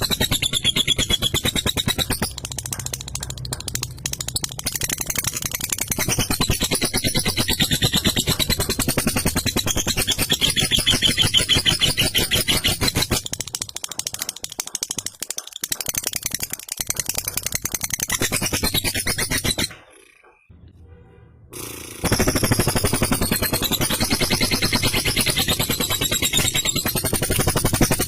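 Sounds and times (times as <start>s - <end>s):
lovebird rattling chatter: 0.0s - 20.5s, 21.6s - 28.0s.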